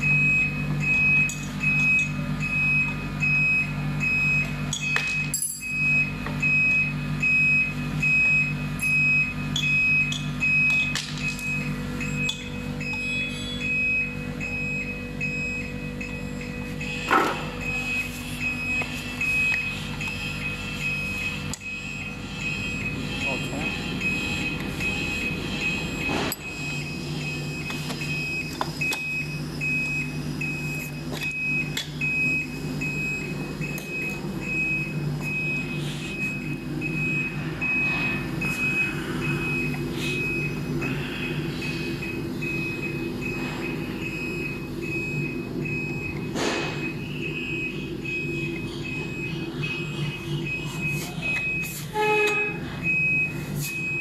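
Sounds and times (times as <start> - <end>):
electronic beeping: 0.0 - 54.0
low mechanical hum: 0.0 - 54.0.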